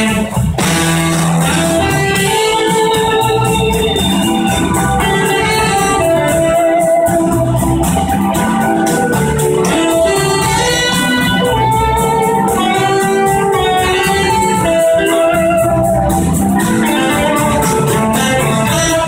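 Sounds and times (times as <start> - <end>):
drums: 0.0 - 19.0
electric guitars: 0.0 - 19.0
horn section: 0.0 - 19.0.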